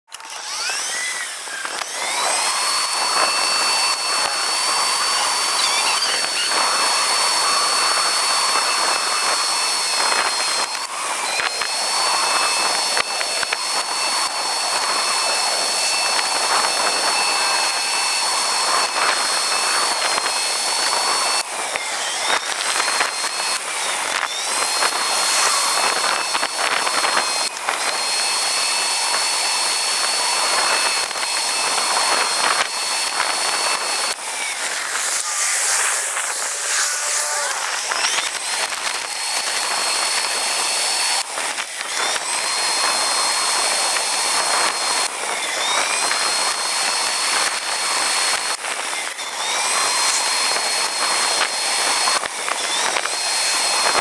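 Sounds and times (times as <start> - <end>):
scooter motor whine: 0.1 - 54.0
rushing wind: 0.5 - 54.0.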